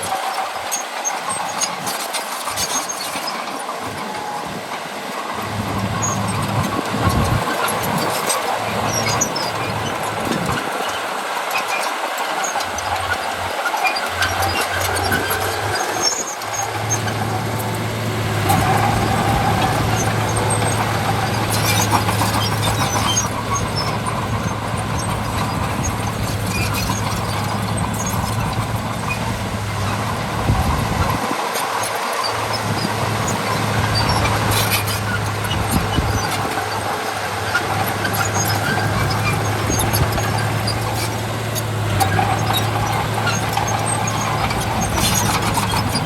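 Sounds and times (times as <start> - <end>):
bulldozer diesel engine: 0.0 - 46.0
steel tracks squealing and clanking: 0.0 - 46.0.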